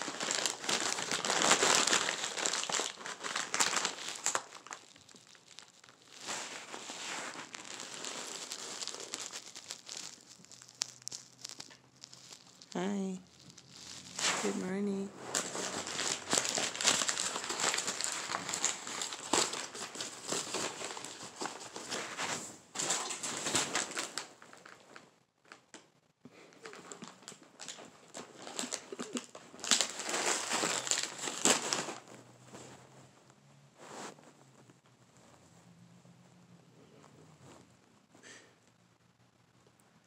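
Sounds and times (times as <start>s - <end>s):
bag crinkling and rustling: 0.0s - 25.7s, 26.4s - 33.0s.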